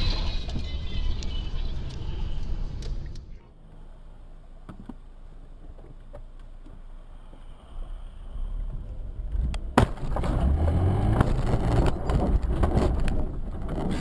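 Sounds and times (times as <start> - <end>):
car road noise rumble: 0.0 - 14.0.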